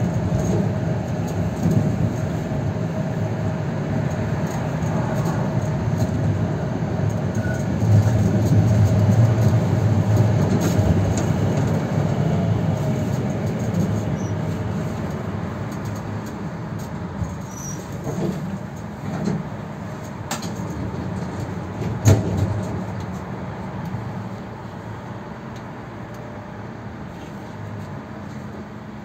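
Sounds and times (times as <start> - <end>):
tram rumbling on rails: 0.0 - 29.0.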